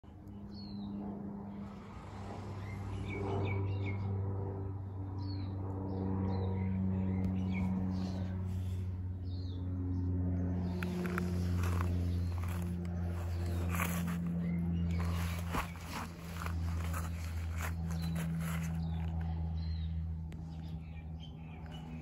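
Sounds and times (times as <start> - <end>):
steady low hum: 0.1 - 22.0
small birds chirping: 0.2 - 1.0, 5.1 - 22.0.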